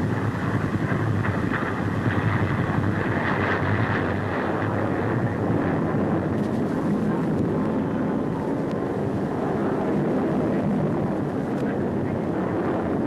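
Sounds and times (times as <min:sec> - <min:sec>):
jet flying overhead: 0:00.0 - 0:13.0.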